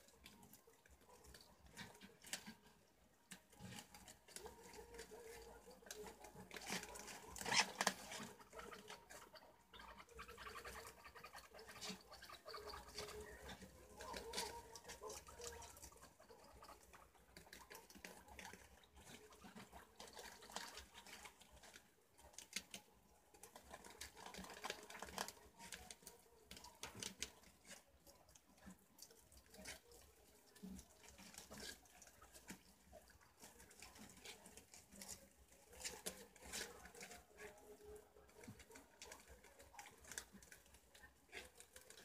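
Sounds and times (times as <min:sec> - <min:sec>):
animals chewing and clicking: 0:00.0 - 0:42.0.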